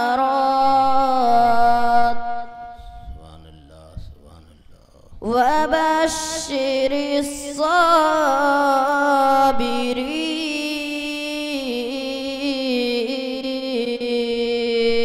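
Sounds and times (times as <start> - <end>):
boy reciting melodically: 0.0 - 15.0.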